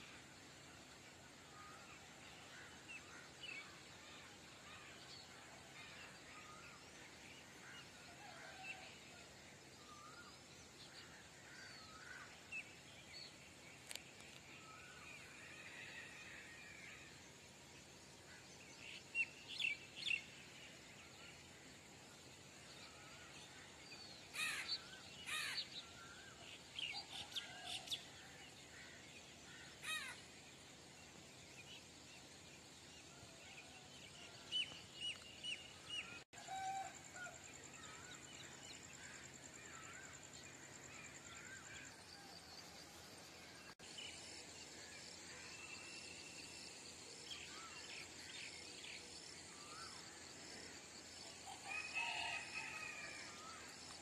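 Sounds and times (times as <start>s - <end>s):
faint outdoor background noise: 0.0s - 54.0s.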